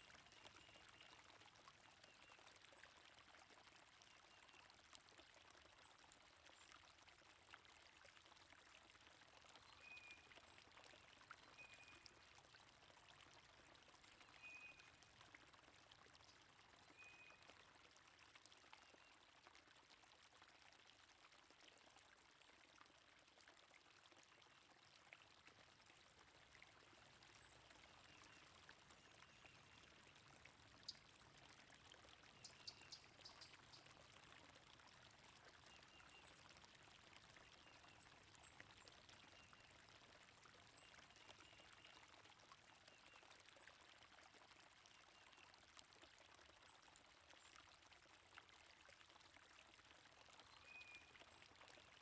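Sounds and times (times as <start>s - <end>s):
flowing stream water: 0.0s - 52.0s.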